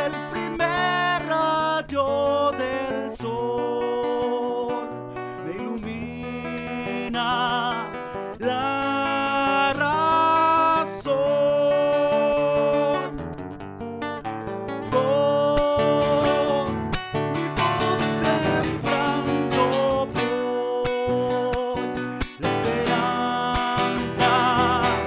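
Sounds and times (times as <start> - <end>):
person singing long notes: 0.0 - 13.2, 14.9 - 25.0
acoustic guitar: 0.0 - 25.0.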